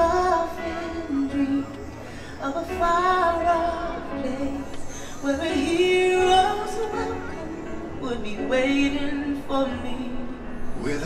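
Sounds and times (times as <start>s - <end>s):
music with singing voice: 0.0s - 11.0s.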